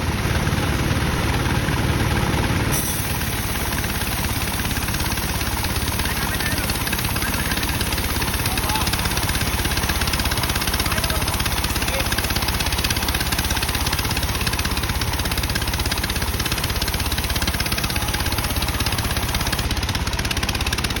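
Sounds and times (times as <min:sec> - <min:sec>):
bandsaw machinery droning: 0:00.0 - 0:21.0.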